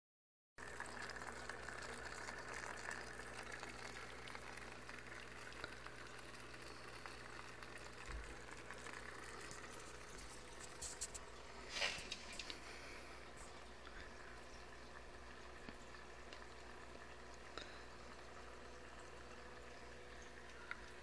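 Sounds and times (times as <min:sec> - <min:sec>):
aquarium filter bubbling water: 0:00.6 - 0:21.0.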